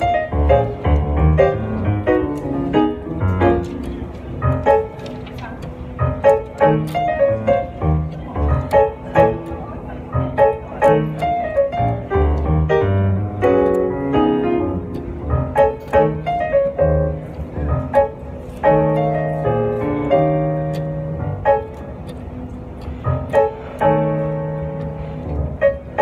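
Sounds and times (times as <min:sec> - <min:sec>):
keyboard piano music: 0:00.0 - 0:26.0.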